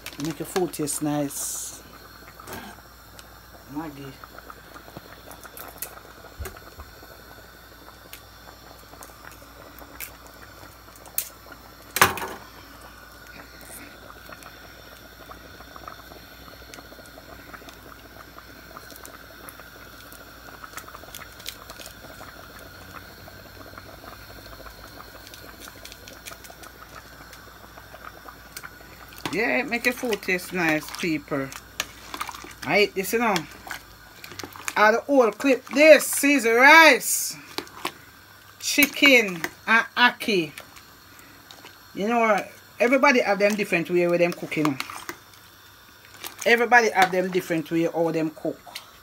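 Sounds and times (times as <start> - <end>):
pot bubbling and crackling: 0.0 - 49.0.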